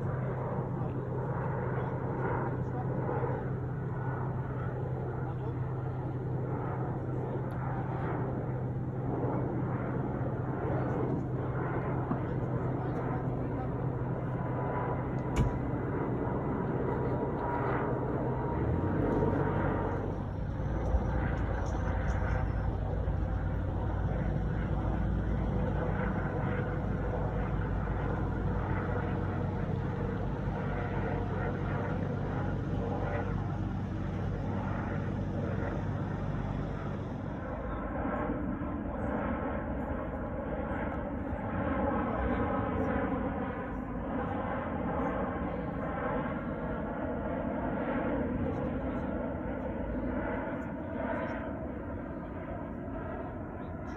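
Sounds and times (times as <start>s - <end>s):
airliner engine noise: 0.0s - 53.9s.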